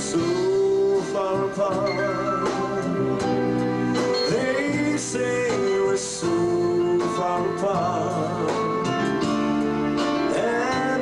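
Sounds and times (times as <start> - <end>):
man singing with vibrato: 0.0 - 3.2, 4.0 - 9.3, 10.0 - 11.0
instrumental accompaniment: 0.0 - 11.0.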